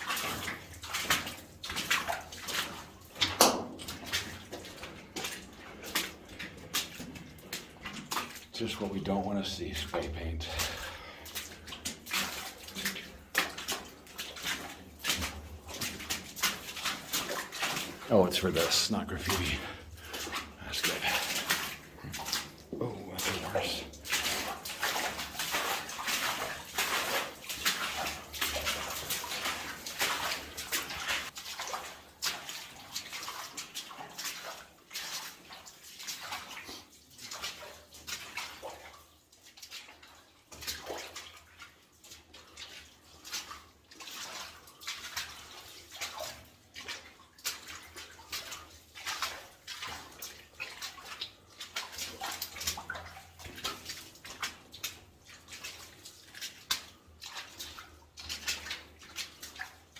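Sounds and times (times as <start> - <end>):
boots splashing through water and mud: 0.0 - 59.9.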